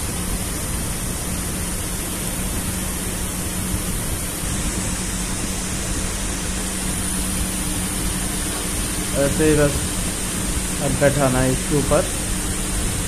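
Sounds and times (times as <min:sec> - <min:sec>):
hiss-like background noise: 0:00.0 - 0:13.0.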